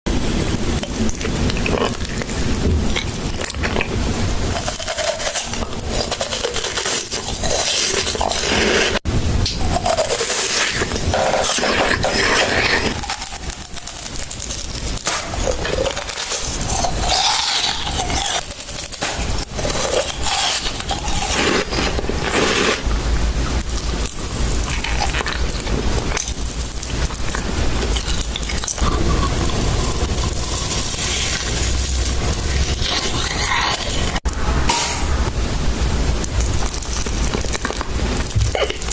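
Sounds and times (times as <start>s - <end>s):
crisp wafer crunching: 0.4s - 34.3s, 36.1s - 38.9s.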